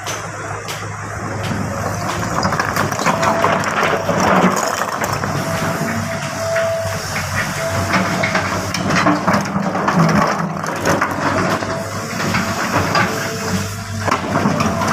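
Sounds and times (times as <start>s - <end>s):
excavator diesel engine running: 0.0s - 14.9s
bucket crunching and scraping rubble: 1.8s - 14.9s.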